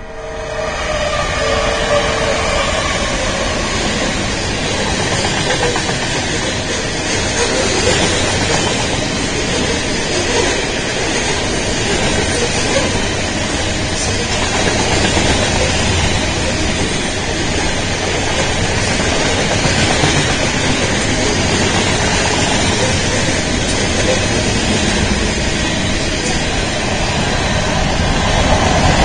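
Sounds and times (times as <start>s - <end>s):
freight train wheels on rails: 0.0s - 29.0s.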